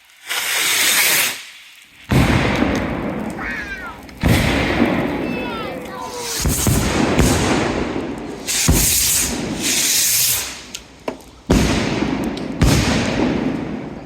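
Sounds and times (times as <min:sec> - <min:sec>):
crackling hiss of fireworks: 0:00.0 - 0:14.0
fireworks bangs: 0:00.2 - 0:14.0.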